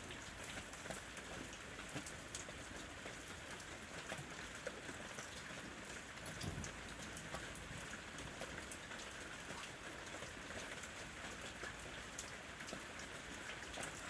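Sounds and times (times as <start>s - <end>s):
rain on a roof: 0.0s - 14.0s.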